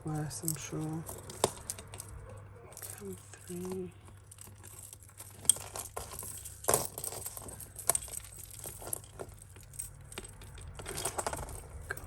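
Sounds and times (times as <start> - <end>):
jewellery chains clinking and rattling: 0.0 - 12.0.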